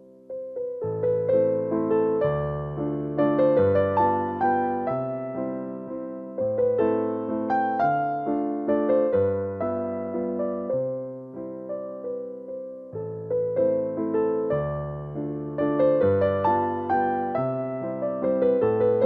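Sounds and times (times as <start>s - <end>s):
gentle piano waltz: 0.0s - 19.0s.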